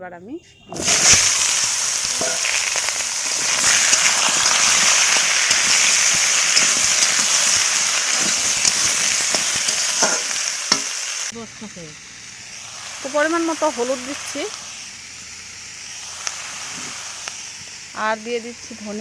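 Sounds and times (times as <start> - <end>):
vegetables sizzling in hot oil: 0.7 - 19.0.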